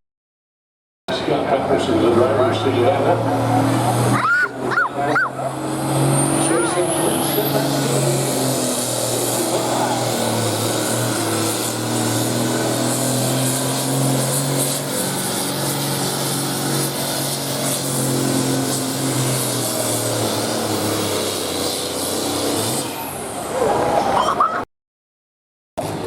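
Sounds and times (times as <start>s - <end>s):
tractor engine running hard: 1.1s - 24.4s, 25.8s - 26.0s.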